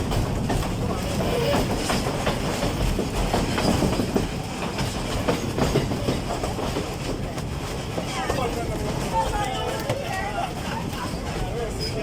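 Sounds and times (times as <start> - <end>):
train rumbling: 0.0 - 12.0
wheels clattering over rails: 0.0 - 12.0.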